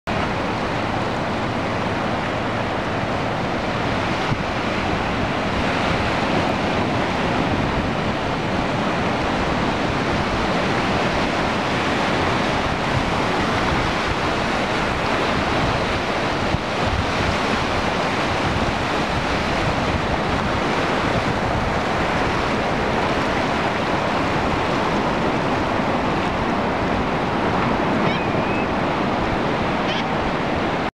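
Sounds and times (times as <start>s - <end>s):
surf washing on beach: 0.1s - 30.9s
wind buffeting microphone: 0.1s - 30.9s.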